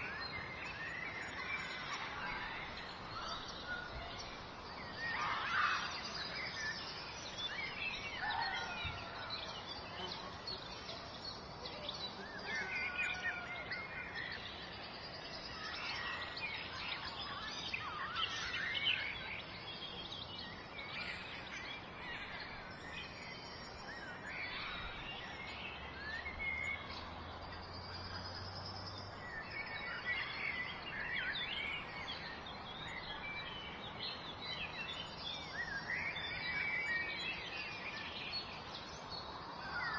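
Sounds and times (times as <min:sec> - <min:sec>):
small birds chirping and singing: 0:00.0 - 0:39.9
steady background hiss: 0:00.0 - 0:39.9.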